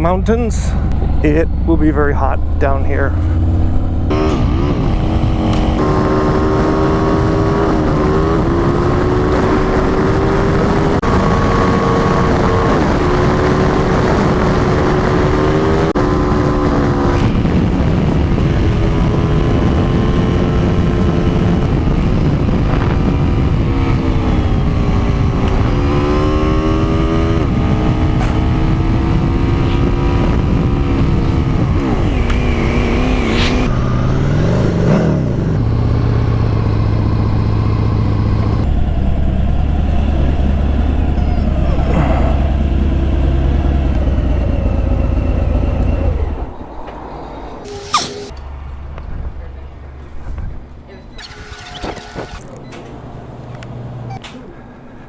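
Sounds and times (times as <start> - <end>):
wind and road noise: 0.0 - 55.0
motorcycle engine running: 0.8 - 46.0.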